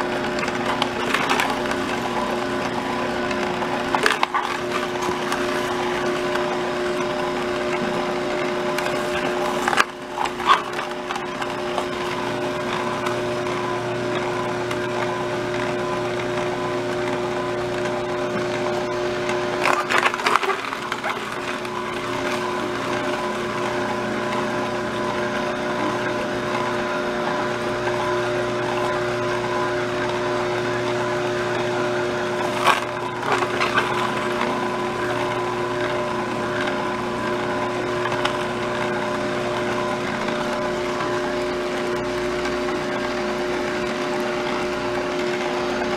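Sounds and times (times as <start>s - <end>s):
fruit crunching: 0.0s - 30.8s, 31.5s - 45.9s
juicer motor humming: 0.0s - 45.9s.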